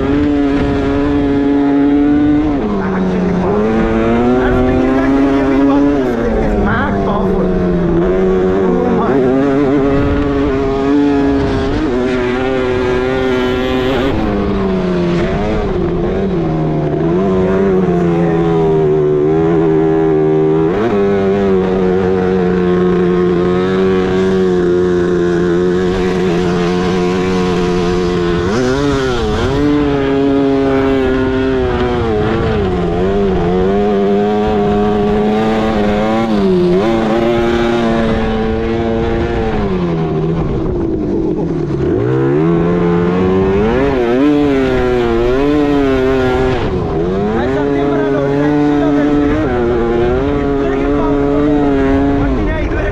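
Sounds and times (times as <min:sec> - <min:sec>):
quad bike two-stroke engine: 0:00.0 - 0:52.9.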